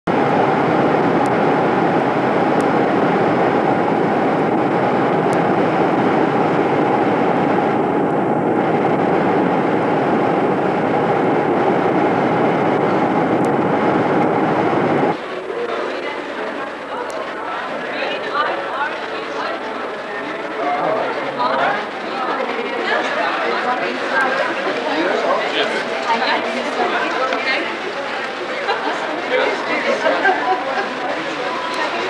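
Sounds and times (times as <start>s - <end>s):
jet airliner cabin noise: 0.1s - 32.0s
steady hum: 0.1s - 32.0s.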